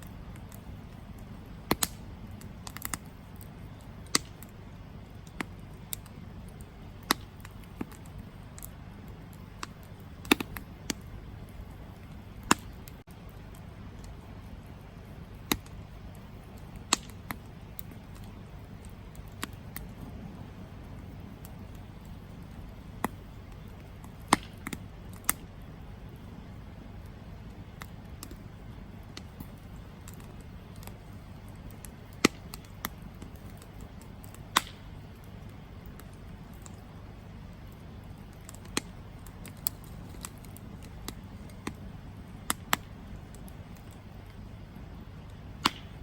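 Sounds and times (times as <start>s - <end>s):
campfire crackling and popping: 0.0s - 46.0s
low rumble of flames: 0.0s - 46.0s.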